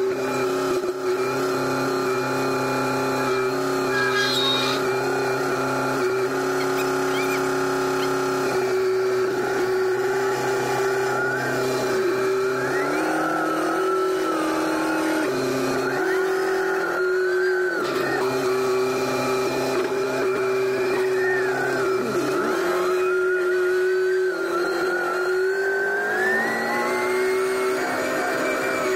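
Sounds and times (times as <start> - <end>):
engine running under load: 0.0 - 28.9
high hydraulic whine: 0.0 - 28.9.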